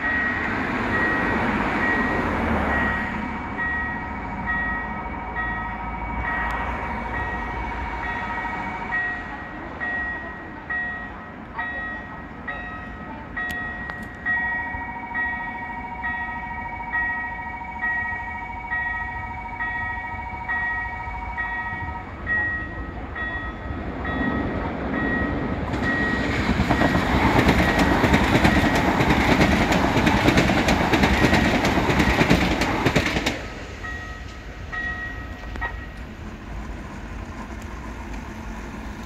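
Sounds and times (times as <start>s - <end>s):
level crossing warning bell: 0.0s - 32.7s, 33.7s - 36.4s.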